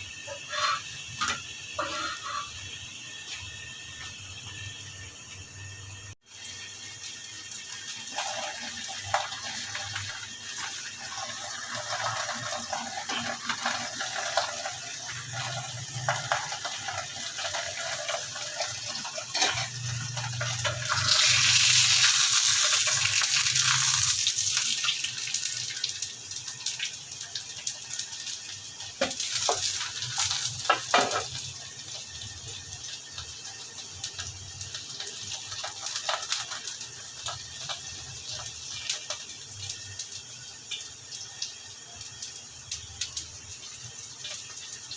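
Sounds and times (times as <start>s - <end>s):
flatbread sizzling in oil: 0.0s - 44.9s.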